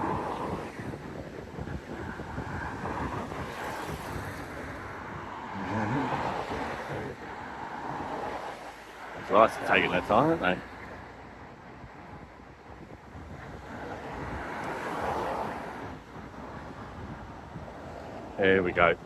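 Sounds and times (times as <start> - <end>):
cars driving by: 0.0 - 19.0
wind noise on microphone: 0.0 - 19.0.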